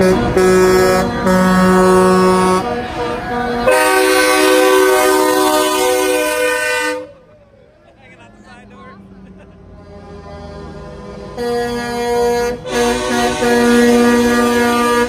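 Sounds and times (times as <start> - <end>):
truck air horn blasts: 0.0 - 7.2, 9.7 - 15.0.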